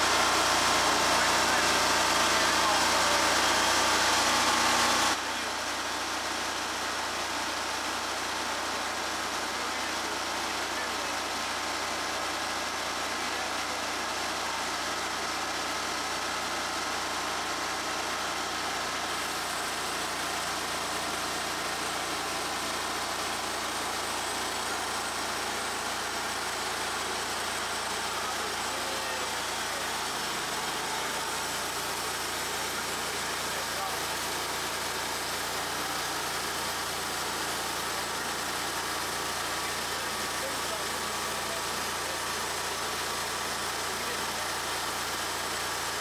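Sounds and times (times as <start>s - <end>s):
bandsaw mill cutting log: 0.0s - 46.0s.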